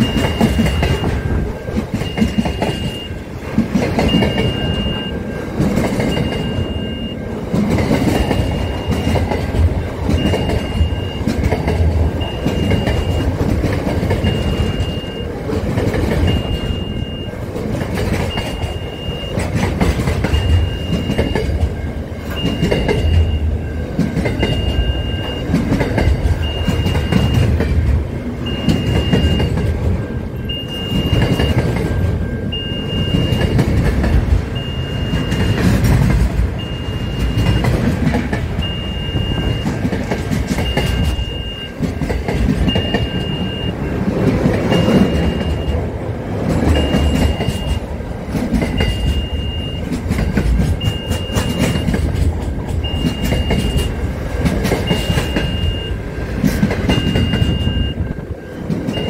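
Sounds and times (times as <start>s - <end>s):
freight train rumbling and clattering: 0.0s - 59.0s
level crossing warning beeps: 0.0s - 59.0s.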